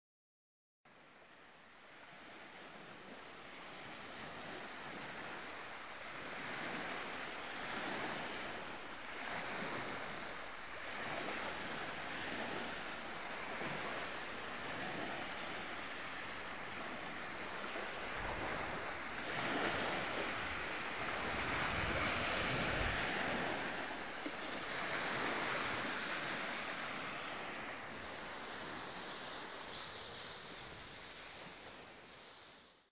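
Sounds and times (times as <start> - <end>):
waves washing on pebble beach: 1.2 - 32.6.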